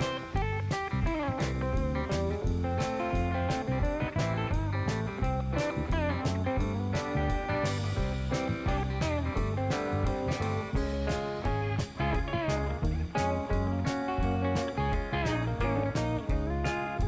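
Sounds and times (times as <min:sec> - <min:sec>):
guitar-led background music: 0:00.0 - 0:17.0.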